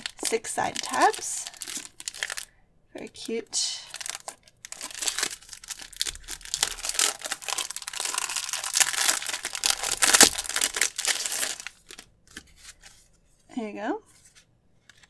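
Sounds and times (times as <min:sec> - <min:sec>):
plastic bags crinkling: 0:00.0 - 0:02.5, 0:03.1 - 0:12.8.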